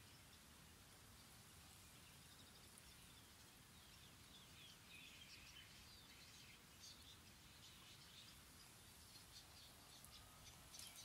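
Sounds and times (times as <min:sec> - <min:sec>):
distant birds chirping: 0:00.0 - 0:11.0.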